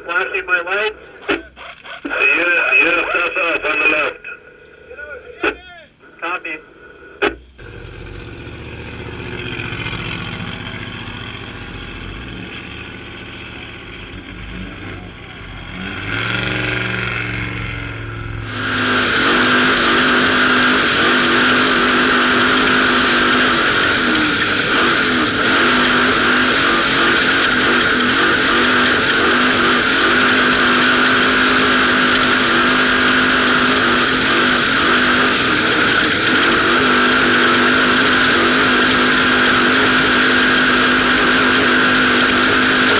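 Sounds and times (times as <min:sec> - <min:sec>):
truck engine racing: 0:00.0 - 0:42.9.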